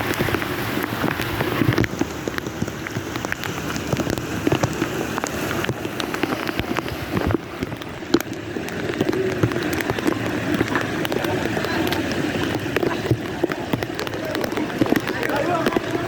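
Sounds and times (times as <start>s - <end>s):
heavy rain: 0.0s - 16.0s
raindrops tapping a surface: 0.0s - 16.0s.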